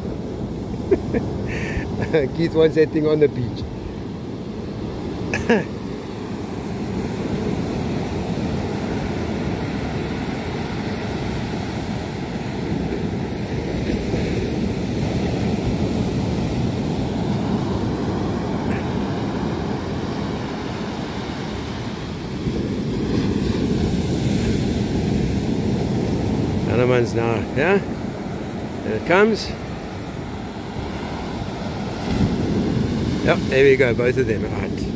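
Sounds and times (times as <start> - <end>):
surf breaking on beach: 0.0 - 34.9
wind buffeting microphone: 6.2 - 34.9.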